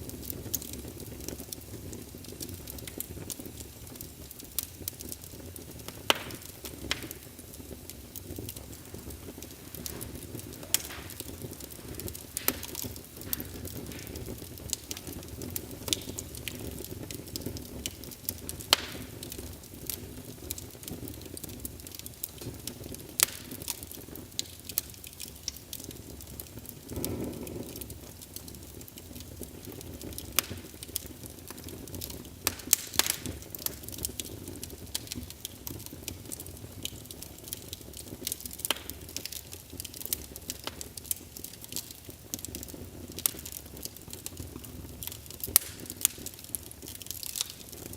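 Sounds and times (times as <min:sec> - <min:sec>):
fire crackling and popping: 0:00.0 - 0:47.9
flames rumbling in fireplace: 0:00.0 - 0:47.9.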